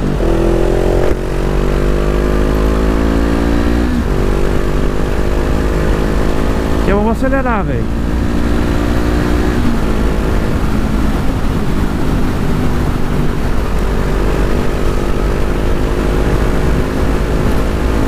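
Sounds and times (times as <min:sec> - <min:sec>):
motorcycle engine running hard: 0:00.0 - 0:18.0.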